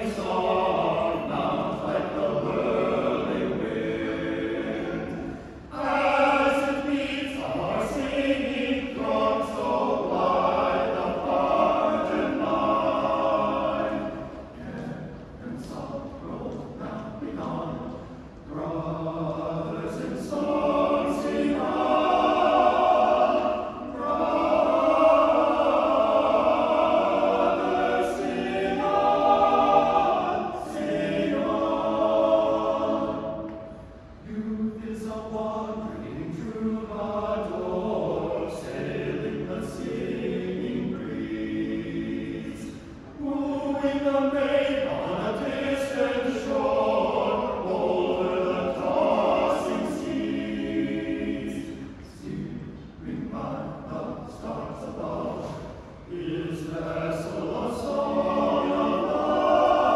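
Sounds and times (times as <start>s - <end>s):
men's choir singing a cappella: 0.0s - 59.9s.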